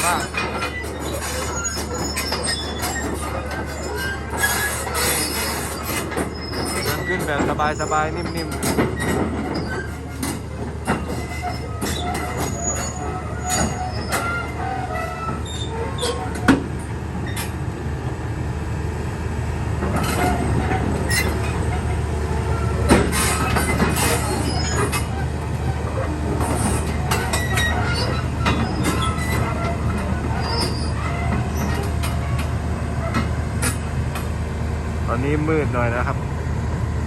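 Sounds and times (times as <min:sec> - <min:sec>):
excavator diesel engine running: 0:00.0 - 0:37.0
steel tracks clanking and squeaking: 0:00.0 - 0:37.0.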